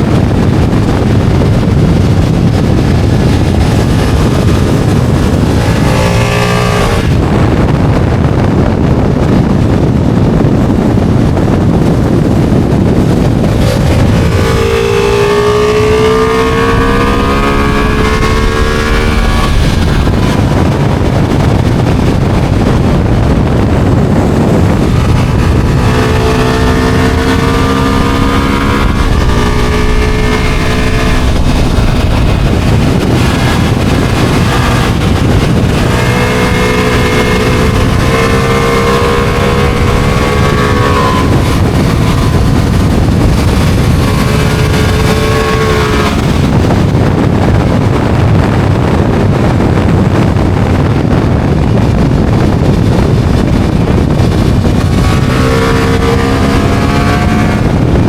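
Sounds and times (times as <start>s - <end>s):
motorcycle engine accelerating: 0.0s - 58.0s
road noise: 0.0s - 58.0s
wind rush on microphone: 0.0s - 58.0s.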